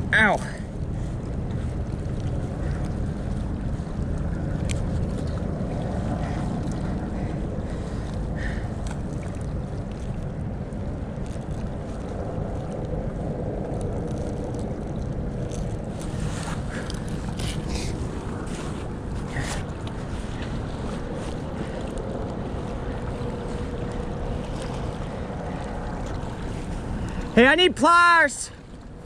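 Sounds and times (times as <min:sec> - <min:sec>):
wind buffeting microphone: 0:00.0 - 0:27.8
boat engine rumble: 0:00.0 - 0:29.0.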